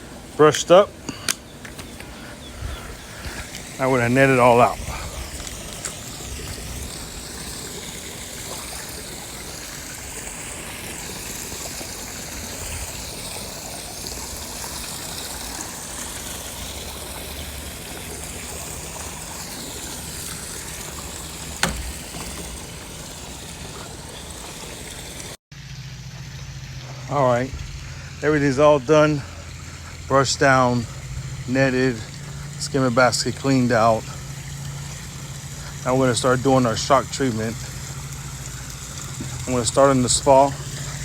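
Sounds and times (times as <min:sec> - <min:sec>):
running and trickling water: 0:00.0 - 0:41.0.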